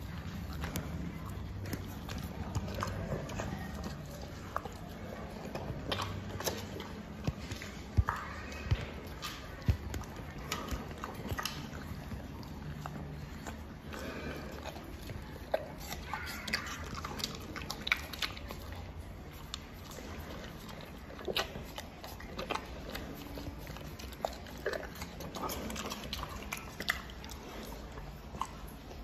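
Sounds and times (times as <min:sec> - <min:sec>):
bear licking and chewing: 0:00.0 - 0:29.0.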